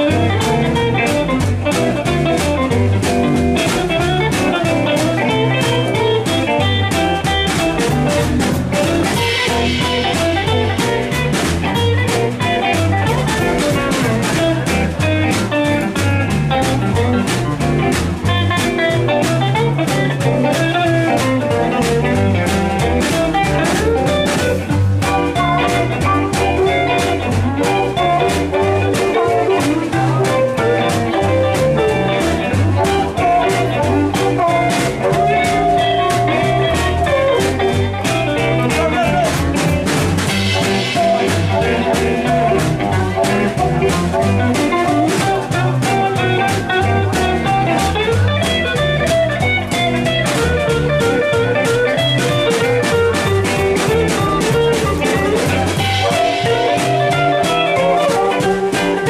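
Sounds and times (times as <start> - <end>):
drum kit beat: 0.0 - 59.0
electric guitar: 0.0 - 59.0
upright double bass: 0.0 - 59.0.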